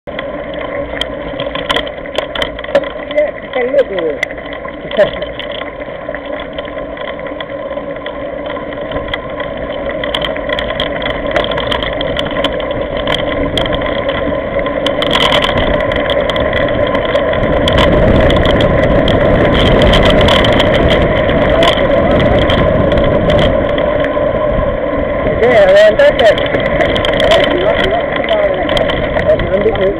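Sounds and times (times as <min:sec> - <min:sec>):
gravel and bike rattles: 0:00.0 - 0:29.9
tyres rumbling on gravel: 0:00.1 - 0:29.9.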